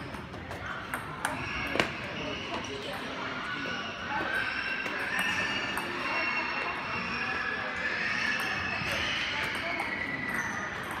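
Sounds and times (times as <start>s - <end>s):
indistinct overlapping voices: 0.0s - 11.0s.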